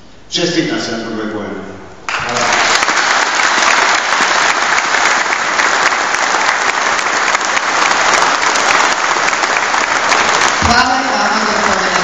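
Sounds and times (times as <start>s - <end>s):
large audience applauding: 2.1s - 12.0s.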